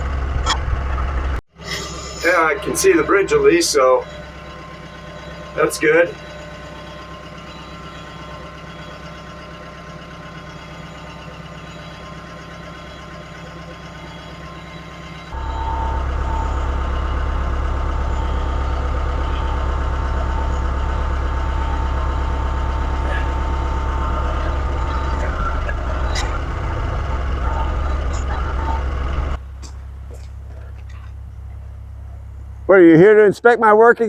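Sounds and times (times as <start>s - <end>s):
engine whine: 0.0s - 32.8s
tractor engine running: 0.0s - 33.0s.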